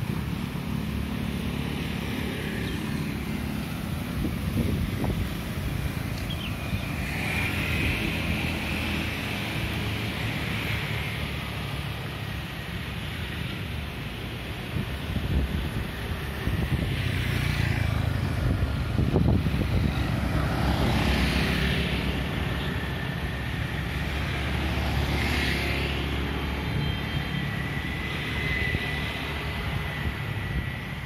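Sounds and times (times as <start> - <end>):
motorcycle engines passing: 0.0 - 31.0.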